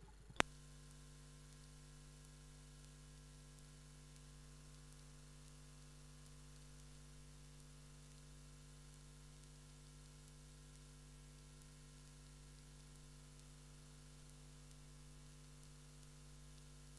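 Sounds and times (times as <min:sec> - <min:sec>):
electrical hum and hiss: 0:00.0 - 0:16.9
faint ticks: 0:00.1 - 0:16.9.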